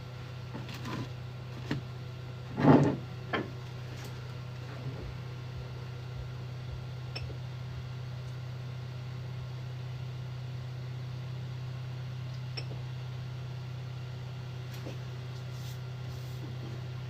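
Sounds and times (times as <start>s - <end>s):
low appliance hum: 0.0s - 17.0s.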